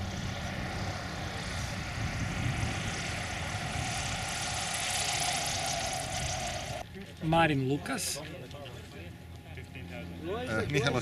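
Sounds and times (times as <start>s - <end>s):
light aircraft engine and propeller: 0.0s - 11.0s.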